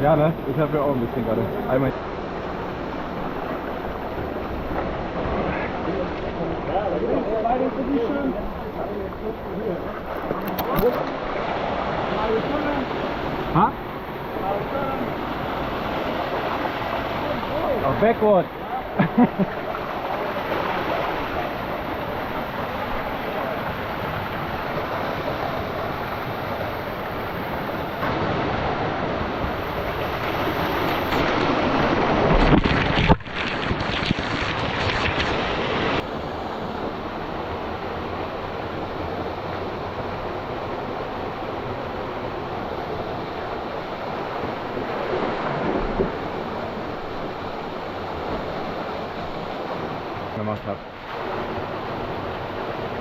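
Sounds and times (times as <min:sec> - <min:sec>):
rushing canyon water: 0:00.0 - 0:53.0.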